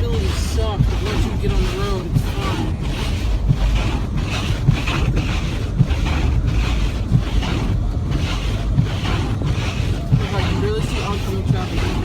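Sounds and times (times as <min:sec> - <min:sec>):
car driving on snowy road: 0:00.0 - 0:12.0.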